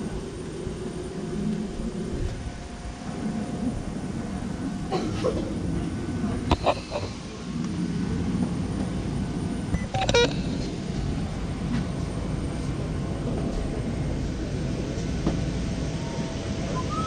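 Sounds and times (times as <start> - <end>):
bus interior rumble: 0.0 - 17.0.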